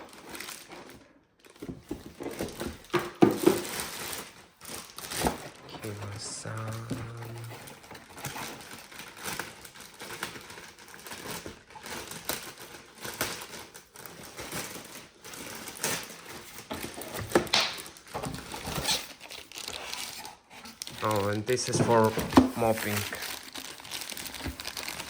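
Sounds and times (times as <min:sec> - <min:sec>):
plastic crinkling: 0:00.0 - 0:25.0.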